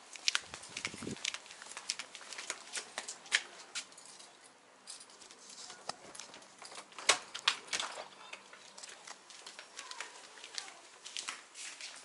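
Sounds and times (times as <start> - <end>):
sandal footsteps on porch floor: 0.0 - 4.0, 5.9 - 12.0.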